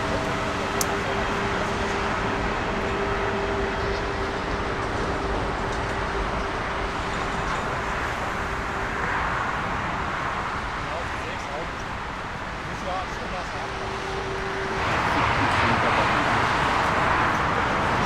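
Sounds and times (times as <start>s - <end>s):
held engine hum: 0.0s - 18.0s
jet engines rushing: 0.0s - 18.0s.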